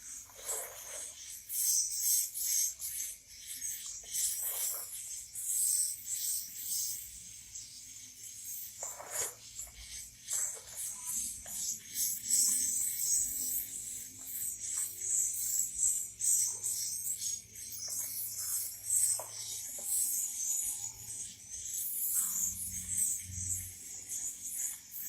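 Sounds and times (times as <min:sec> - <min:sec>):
bird chicks chirping: 0:00.0 - 0:25.0.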